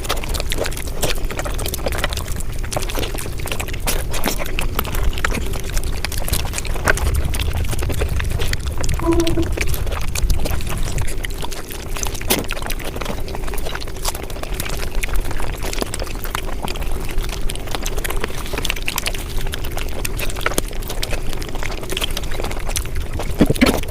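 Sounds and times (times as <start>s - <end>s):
quick chewing and mouth clicks: 0.0s - 23.9s.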